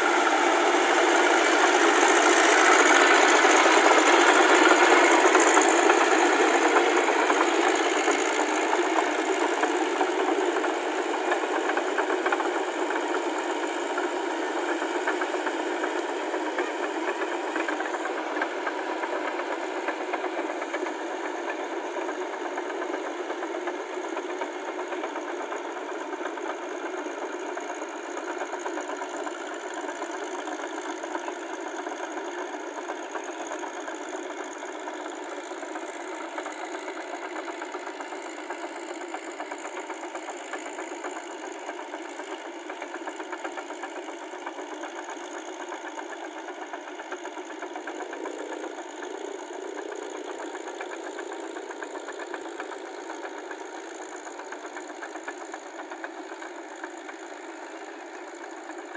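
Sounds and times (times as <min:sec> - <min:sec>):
tractor diesel engine knocking: 0:00.0 - 0:58.9.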